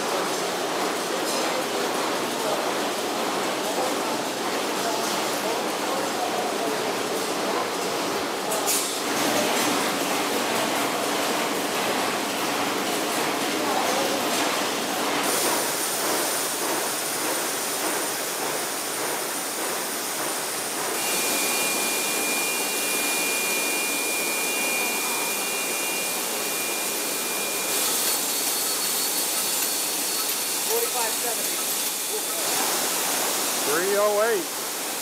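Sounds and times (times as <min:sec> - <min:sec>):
factory machinery running: 0:00.0 - 0:35.0.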